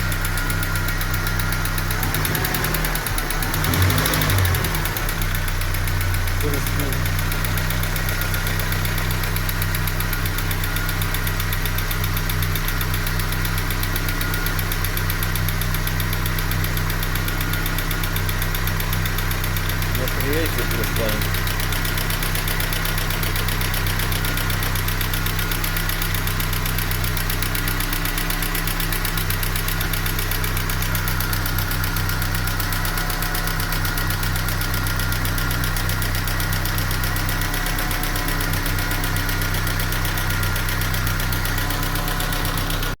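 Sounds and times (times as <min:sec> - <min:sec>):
car engine idling with knock: 0:00.0 - 0:43.0.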